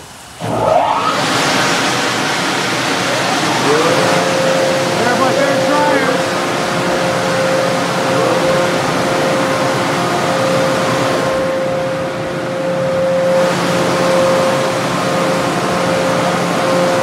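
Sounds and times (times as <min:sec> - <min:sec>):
blower whine: 0:00.0 - 0:17.0
car wash dryers blowing air: 0:00.0 - 0:17.0.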